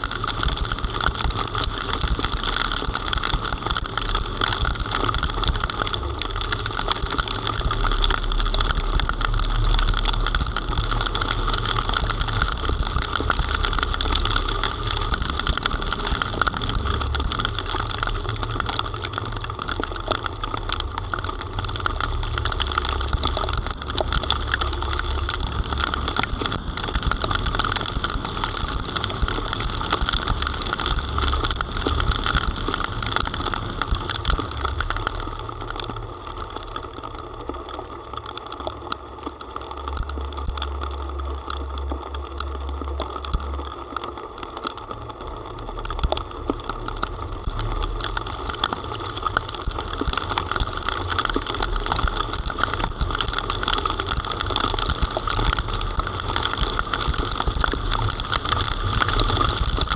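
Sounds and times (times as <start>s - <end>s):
heavy rain: 0.0s - 59.9s
low rumble: 0.0s - 59.9s
raindrops ticking near microphone: 0.0s - 59.9s.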